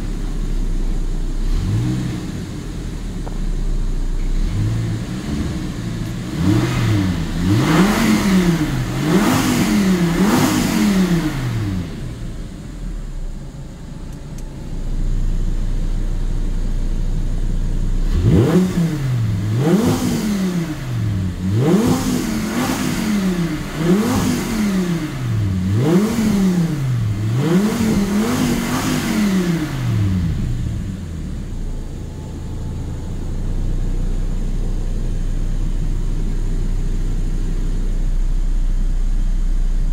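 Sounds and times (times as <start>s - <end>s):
car engine idling: 0.0s - 39.9s
car engine revving: 0.0s - 39.9s.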